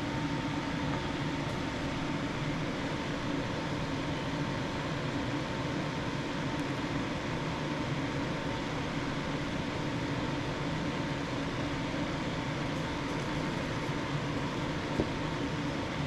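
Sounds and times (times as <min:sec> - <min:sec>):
mechanical fan hum and hiss: 0:00.0 - 0:16.0.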